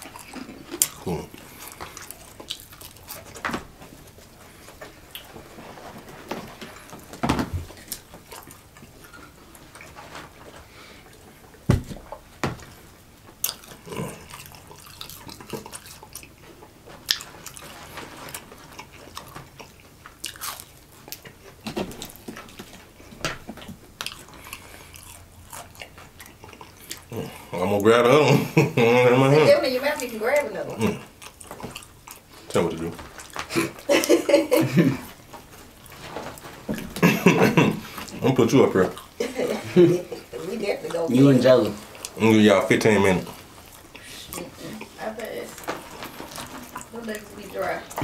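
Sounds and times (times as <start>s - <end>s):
people chewing crunchy food: 0.0s - 48.0s.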